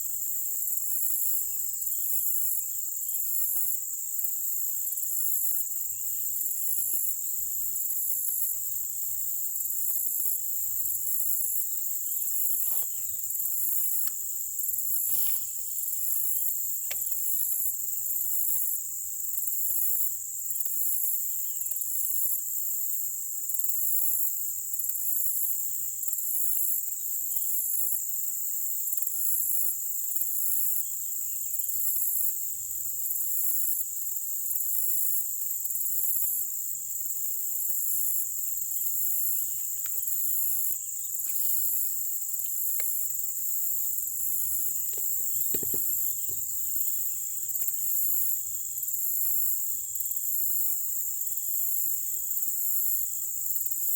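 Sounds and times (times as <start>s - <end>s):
high-pitched insect trill: 0.0s - 53.9s
insect chorus buzzing: 0.0s - 53.9s.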